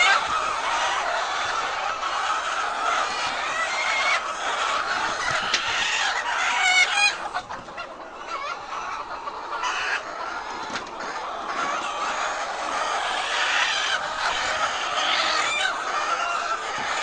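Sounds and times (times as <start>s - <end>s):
hens clucking and squawking: 0.0s - 17.0s.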